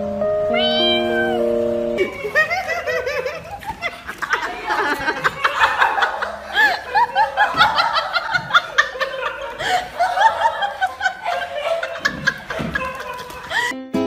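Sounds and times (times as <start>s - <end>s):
people laughing: 2.0s - 13.8s.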